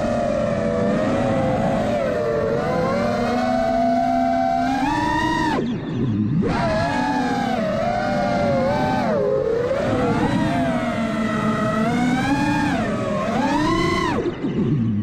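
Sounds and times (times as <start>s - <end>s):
quadcopter motors whining: 0.0s - 14.7s.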